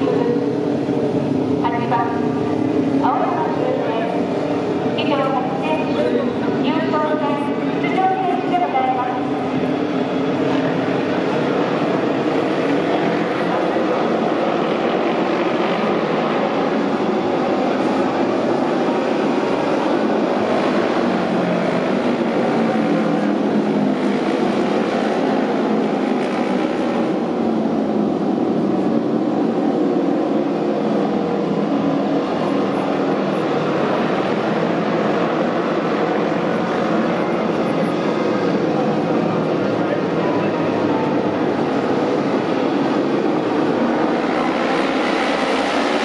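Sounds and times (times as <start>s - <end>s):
racing motorcycle engines droning: 0.0s - 46.0s.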